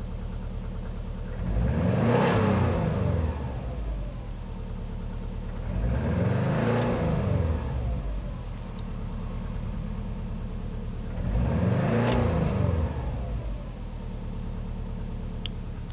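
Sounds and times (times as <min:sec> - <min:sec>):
car engine idling and revving: 0:00.0 - 0:15.9.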